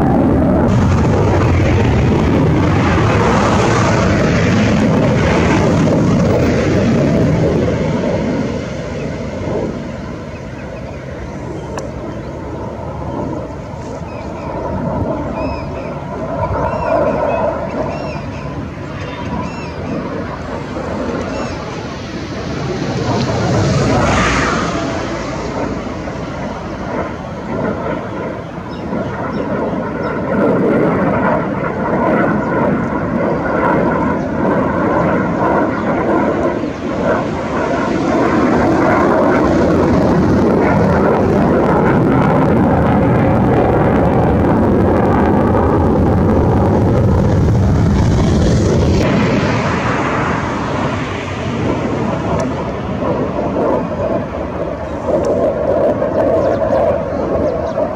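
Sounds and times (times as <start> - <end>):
jet engine roaring overhead: 0.0 - 57.9.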